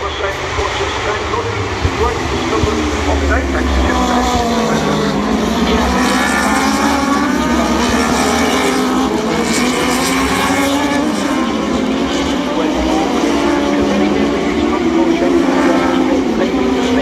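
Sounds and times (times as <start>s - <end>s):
racing motorbikes revving: 0.0s - 17.0s.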